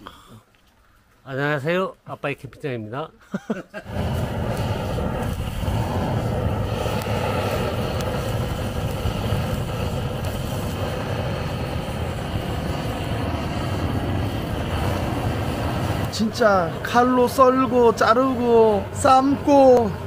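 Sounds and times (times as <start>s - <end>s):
gas torch flame rushing: 3.7s - 20.0s.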